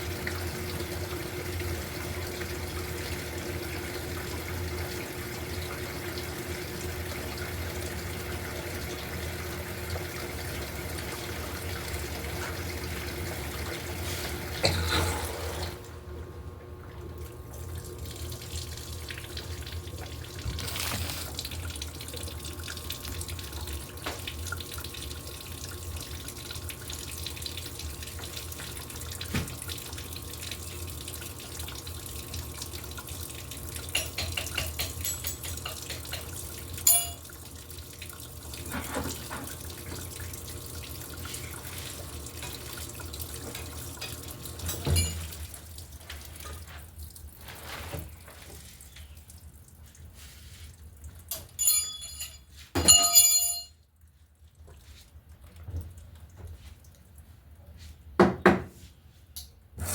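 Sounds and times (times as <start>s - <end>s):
water rushing in washing machine: 0.0s - 52.7s, 54.1s - 58.7s, 59.7s - 59.9s.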